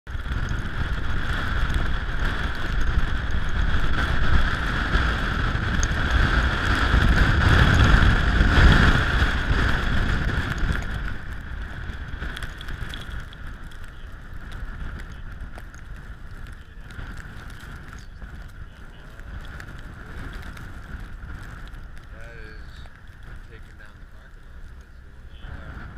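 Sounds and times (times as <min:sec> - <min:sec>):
blizzard wind buffeting microphone: 0:00.1 - 0:25.9.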